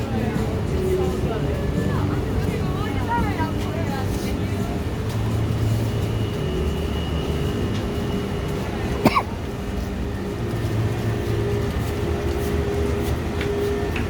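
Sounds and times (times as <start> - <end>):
traffic engines humming: 0.0 - 14.0.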